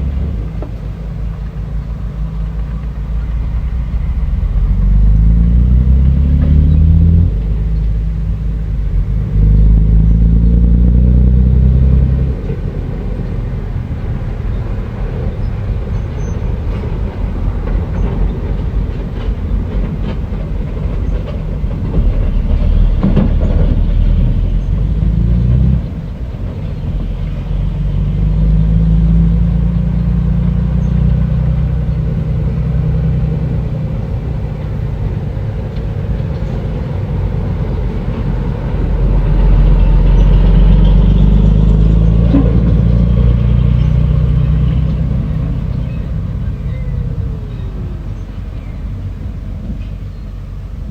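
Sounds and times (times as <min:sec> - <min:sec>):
bulldozer diesel engine revving: 0:00.0 - 0:50.9.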